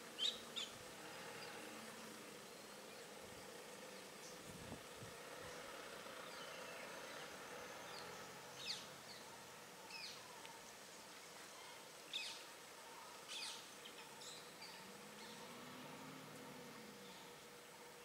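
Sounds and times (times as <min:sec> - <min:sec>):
birds chirping: 0:00.0 - 0:04.6, 0:05.3 - 0:18.0
faint steady hum: 0:00.0 - 0:18.0
outdoor background noise: 0:00.0 - 0:18.0.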